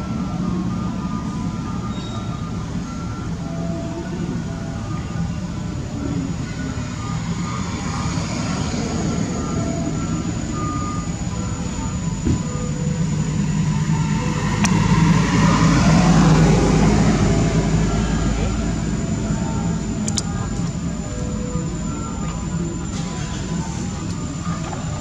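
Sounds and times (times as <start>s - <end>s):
engine low hum: 0.0s - 25.0s
thin high whine: 0.0s - 25.0s.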